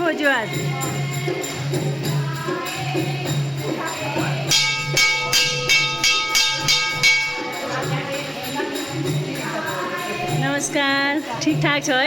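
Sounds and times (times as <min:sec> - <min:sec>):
group singing: 0:00.0 - 0:12.0
jingling hand percussion: 0:00.0 - 0:12.0.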